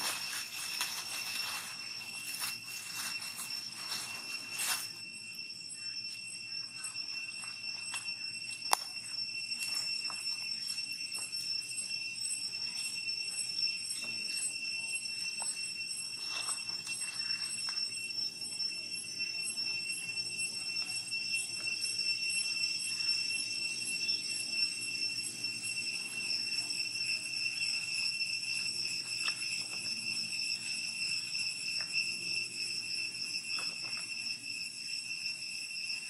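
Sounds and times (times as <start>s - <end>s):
high-pitched insect drone: 0.0s - 36.0s.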